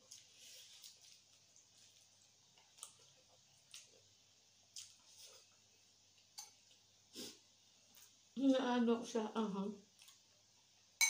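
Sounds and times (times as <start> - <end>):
soft chewing smacks: 0.0 - 8.2, 9.8 - 10.7.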